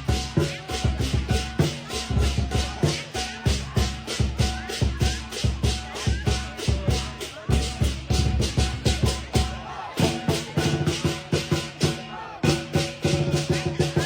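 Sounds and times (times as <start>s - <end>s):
big drum beating: 0.0s - 14.0s
cymbals clashing: 0.0s - 14.0s.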